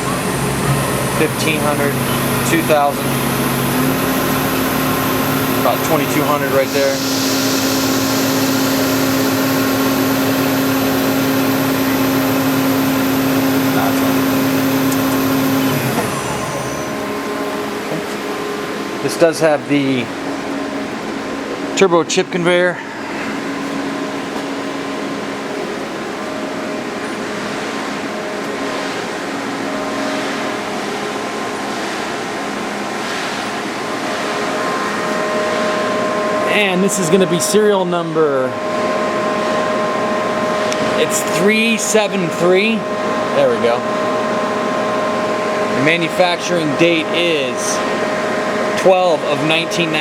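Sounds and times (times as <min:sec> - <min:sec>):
lathe spindle humming and whirring: 0:00.0 - 0:50.0.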